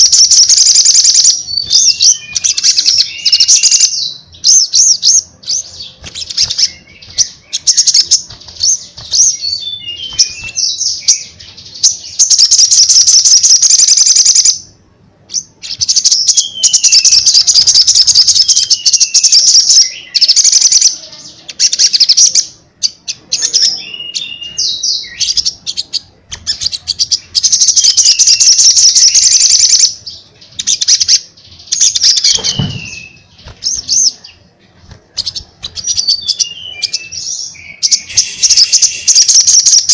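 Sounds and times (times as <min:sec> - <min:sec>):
sunbird singing trills: 0:00.0 - 0:14.7, 0:15.3 - 0:34.5, 0:35.1 - 0:39.9.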